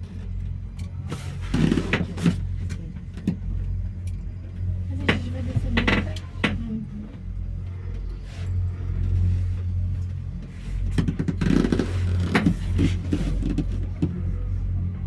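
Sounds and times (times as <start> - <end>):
clanks and rattles: 0.0 - 14.8
cable car humming: 0.0 - 15.0.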